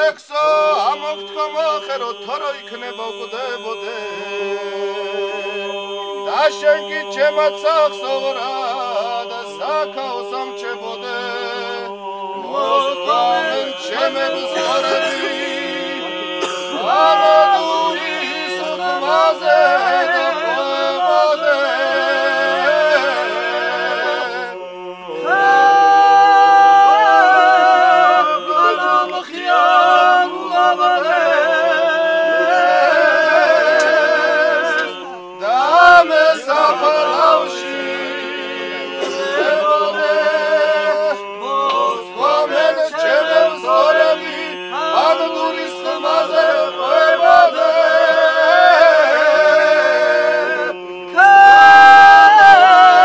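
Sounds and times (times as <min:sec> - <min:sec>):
men singing a cappella harmony: 0:00.0 - 0:53.0.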